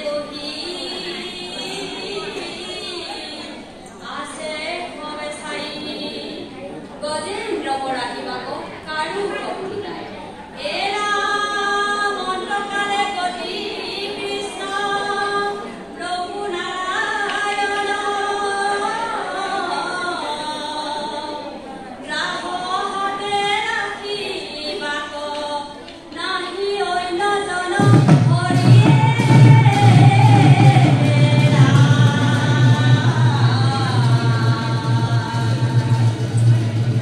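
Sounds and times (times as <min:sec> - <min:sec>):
women singing a chant: 0:00.0 - 0:07.2, 0:10.6 - 0:36.6.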